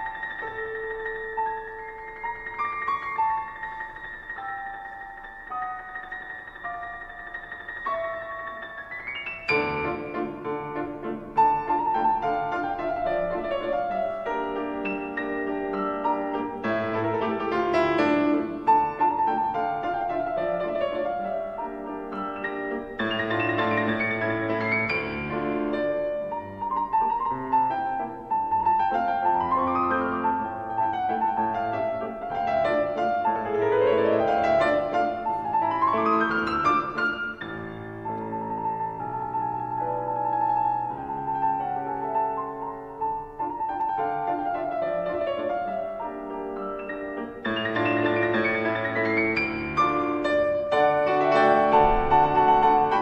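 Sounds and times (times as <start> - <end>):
solo piano classical piece: 0.0 - 53.0.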